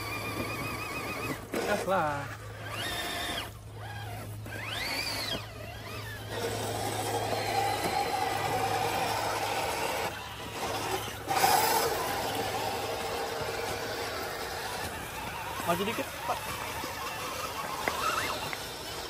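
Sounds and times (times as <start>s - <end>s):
electric motor and gear whine: 0.0s - 19.0s.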